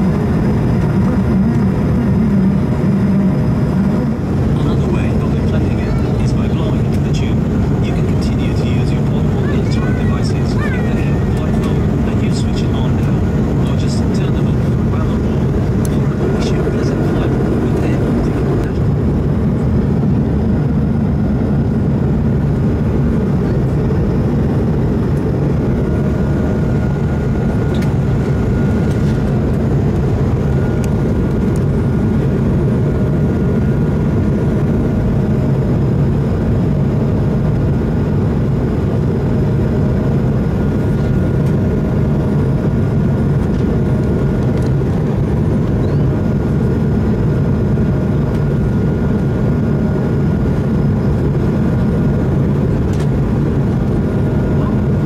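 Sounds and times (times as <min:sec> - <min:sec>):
airplane cabin drone: 0:00.0 - 0:55.0
faint steady engine whine: 0:00.0 - 0:55.0.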